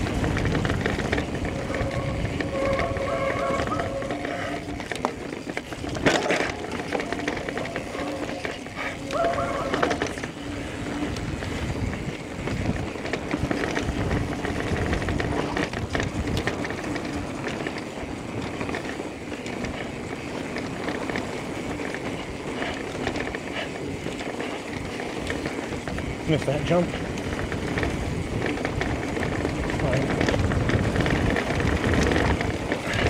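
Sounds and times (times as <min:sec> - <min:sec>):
bike rattling and knocking: 0:00.0 - 0:33.0
tyres rushing on dirt: 0:00.0 - 0:33.0.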